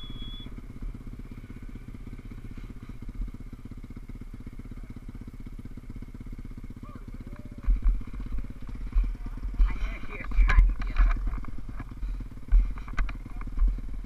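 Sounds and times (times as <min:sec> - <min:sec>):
motorbike engine idling: 0:00.0 - 0:14.0.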